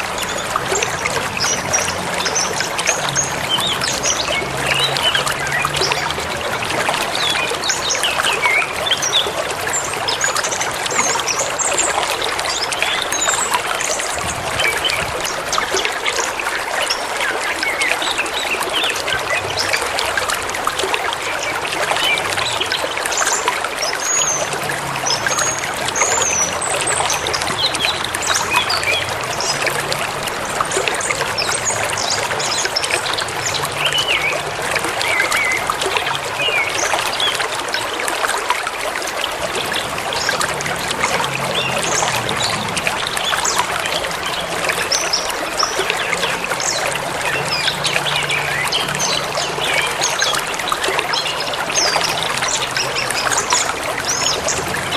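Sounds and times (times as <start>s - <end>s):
stream babbling: 0.0s - 54.9s.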